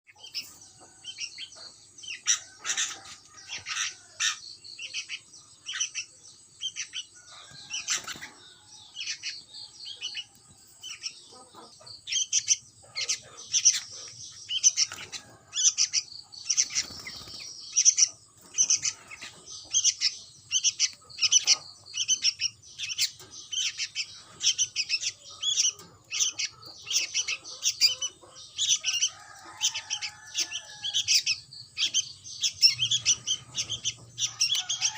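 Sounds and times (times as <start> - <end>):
bird chicks chirping: 0.1 - 34.9.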